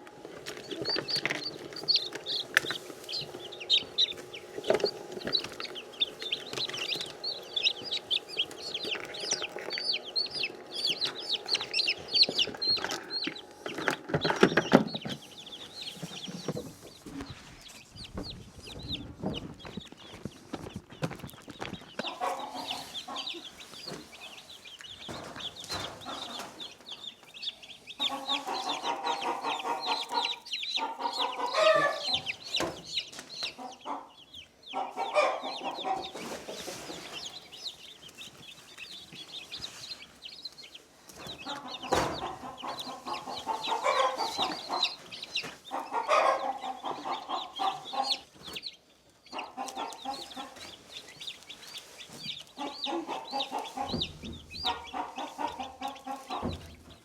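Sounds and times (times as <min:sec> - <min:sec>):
chickens clucking: 0:00.0 - 0:57.0
high-pitched chick peeps: 0:00.0 - 0:57.0.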